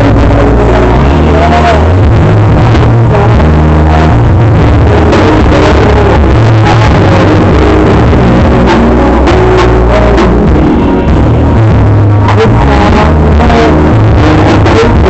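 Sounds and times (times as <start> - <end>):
dance music with heavy bass: 0.0 - 15.0.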